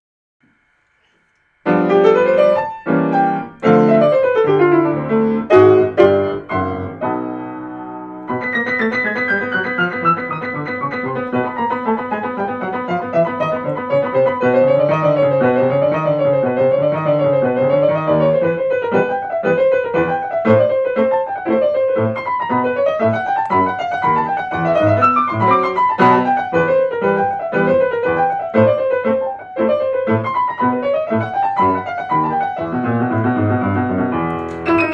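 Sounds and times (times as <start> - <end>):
piano chords and arpeggios: 1.6 - 34.9.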